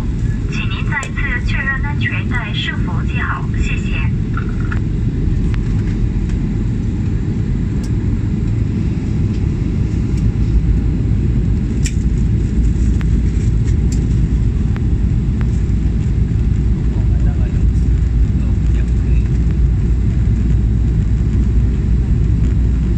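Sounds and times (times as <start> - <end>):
airliner cabin noise: 0.0 - 22.9.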